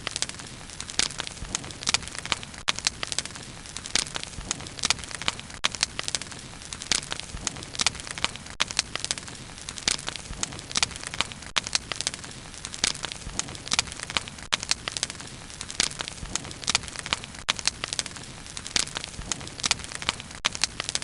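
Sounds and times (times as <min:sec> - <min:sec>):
wood crackling and popping: 0:00.0 - 0:21.0.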